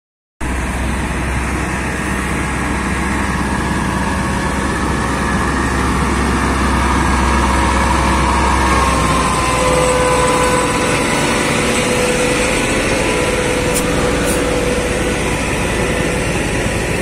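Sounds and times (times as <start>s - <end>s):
heavy truck engine humming: 0.4s - 17.0s.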